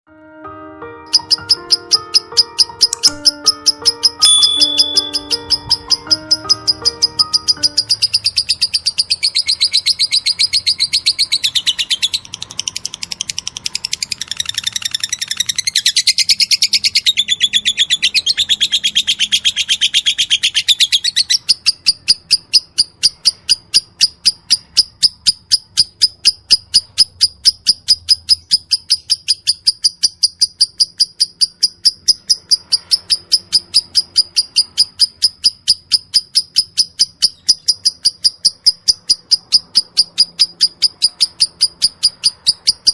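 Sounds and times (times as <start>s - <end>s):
lovebird chirping: 1.1s - 42.9s.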